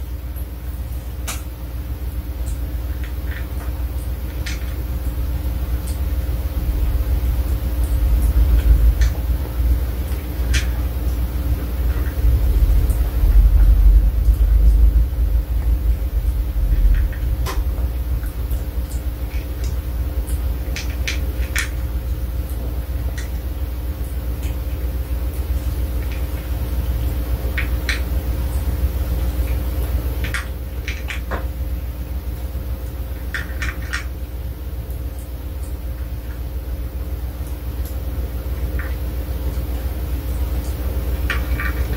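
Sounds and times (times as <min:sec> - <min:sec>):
low hum and rumble: 0:00.0 - 0:41.9.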